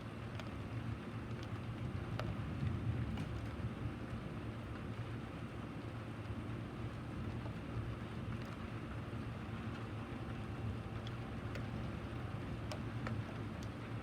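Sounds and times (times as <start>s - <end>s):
steady rain falling: 0.1s - 14.0s.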